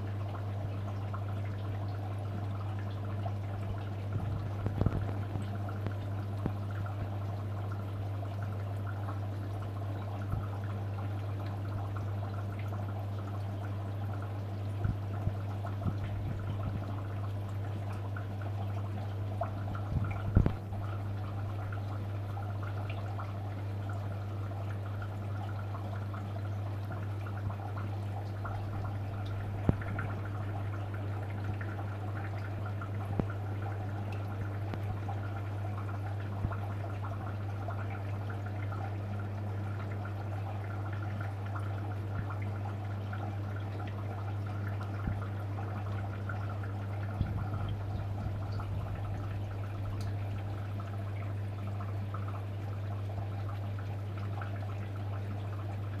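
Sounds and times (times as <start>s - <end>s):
aquarium pump humming: 0.0s - 56.0s
water trickling: 0.0s - 56.0s.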